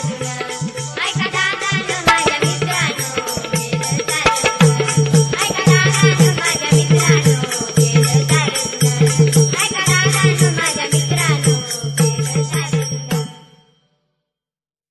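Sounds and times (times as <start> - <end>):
hand drum beating: 0.0 - 13.4
jingling cymbal ticks: 0.6 - 13.3.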